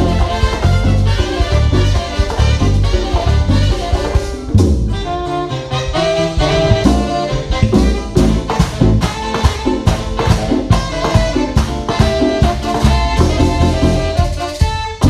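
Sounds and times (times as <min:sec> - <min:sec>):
latin dance band playing: 0:00.0 - 0:15.0.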